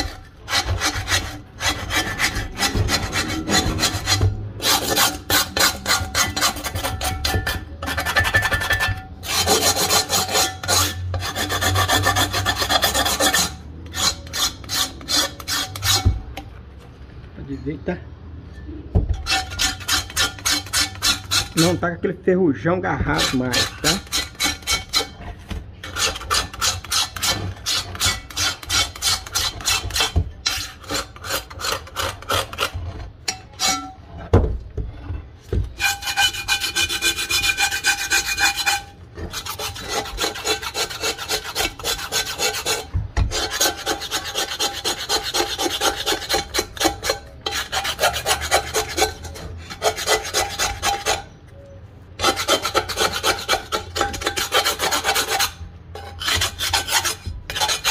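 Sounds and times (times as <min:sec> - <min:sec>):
knife scraping cast-iron pot: 0:00.0 - 0:16.6, 0:19.1 - 0:22.1, 0:22.9 - 0:57.9.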